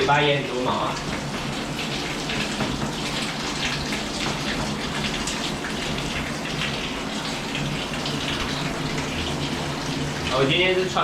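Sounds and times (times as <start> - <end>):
shower water splashing into tub: 0.0 - 11.0.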